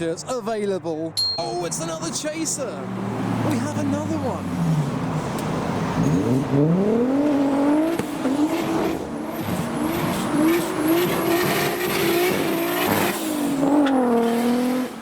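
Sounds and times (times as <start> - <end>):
car engine revving hard: 2.8 - 15.0.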